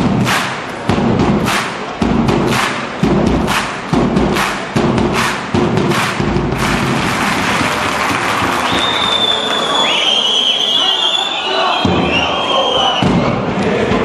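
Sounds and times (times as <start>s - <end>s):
large drum beating march rhythm: 0.0s - 9.2s, 11.6s - 14.0s
crowd hum: 0.0s - 14.0s.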